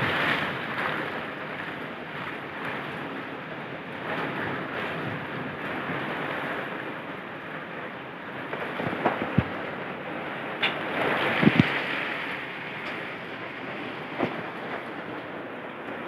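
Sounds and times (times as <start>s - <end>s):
heavy rain pouring: 0.0s - 16.0s
wind buffeting microphone: 0.0s - 16.0s.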